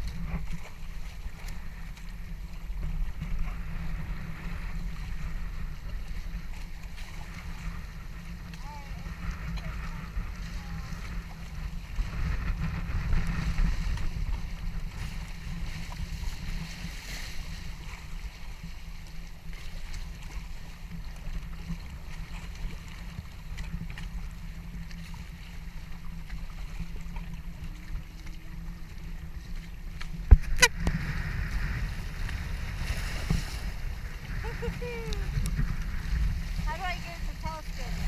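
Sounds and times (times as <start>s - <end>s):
water splashing along boat hulls: 0.0s - 38.0s
wind rumble on microphone: 0.0s - 38.0s.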